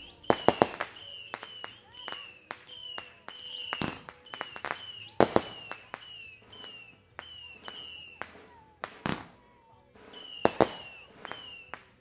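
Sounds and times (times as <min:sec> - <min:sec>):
fireworks bangs and pops: 0:00.0 - 0:12.0
fireworks falling whistles: 0:00.0 - 0:12.0.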